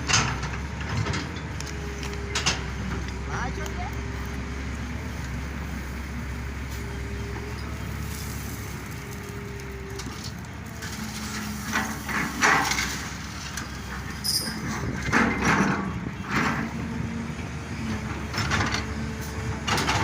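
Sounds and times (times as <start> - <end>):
excavator diesel engine whining: 0.0 - 20.0.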